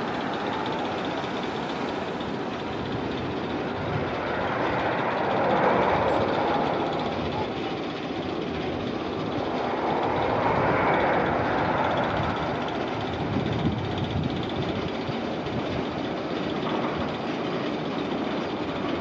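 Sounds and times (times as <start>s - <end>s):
roller coaster running on track: 0.0s - 19.0s.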